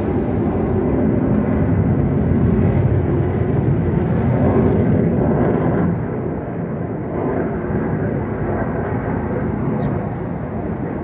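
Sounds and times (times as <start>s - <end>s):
jet aircraft roaring overhead: 0.0s - 11.0s.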